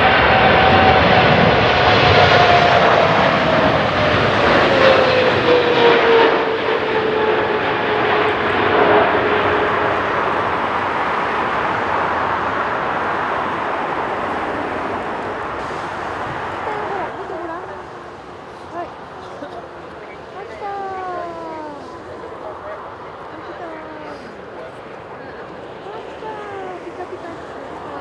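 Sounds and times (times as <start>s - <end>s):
jet airliner passing close: 0.0s - 28.0s.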